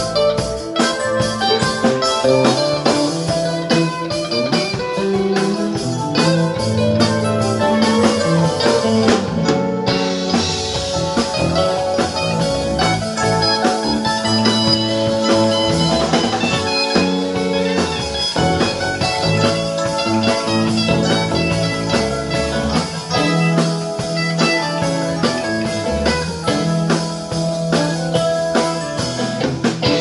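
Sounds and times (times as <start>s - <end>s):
drum kit: 0.0s - 30.0s
electric bass: 0.0s - 30.0s
electric guitars: 0.0s - 30.0s
keyboard: 0.0s - 30.0s.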